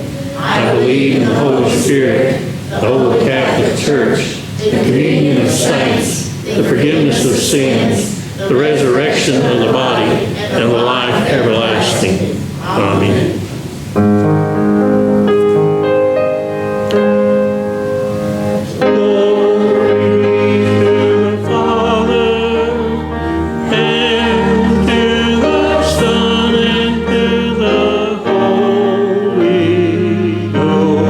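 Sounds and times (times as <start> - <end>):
voices singing a hymn: 0.0 - 13.9, 18.0 - 31.0
keyboard accompaniment: 0.0 - 31.0.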